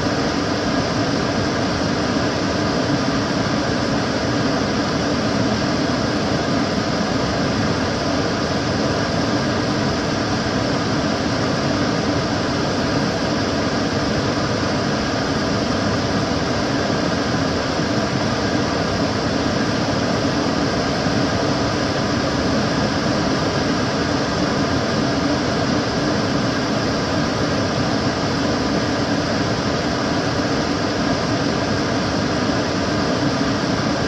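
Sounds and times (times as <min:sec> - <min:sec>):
extractor fan running: 0:00.0 - 0:34.0.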